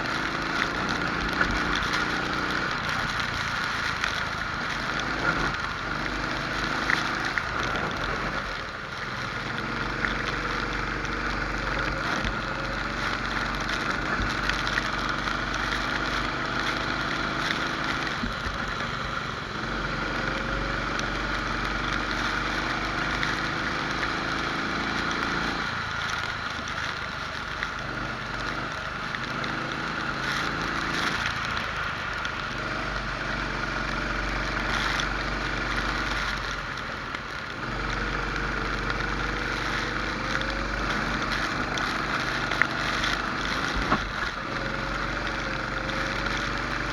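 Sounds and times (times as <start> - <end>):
kart engine revving: 0.0 - 46.9
wet track spray: 0.0 - 46.9
wind: 0.0 - 46.9.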